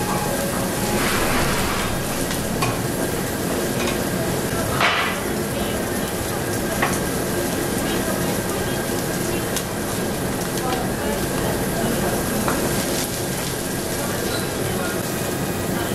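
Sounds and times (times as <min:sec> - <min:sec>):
pork sizzling on a grill: 0:00.0 - 0:15.9.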